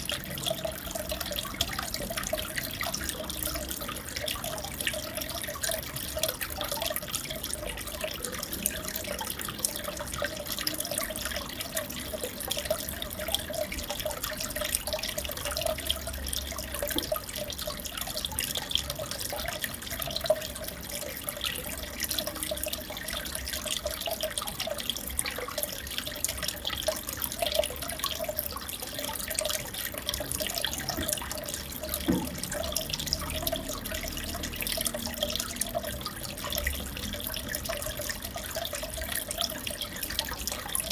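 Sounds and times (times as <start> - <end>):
aquarium water trickling and bubbling: 0.0 - 40.9
small splashes and drips: 0.0 - 40.9.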